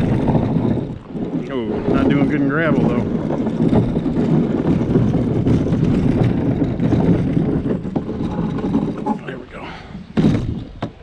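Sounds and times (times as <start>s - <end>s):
kayak dragged over gravel: 0.0s - 11.0s.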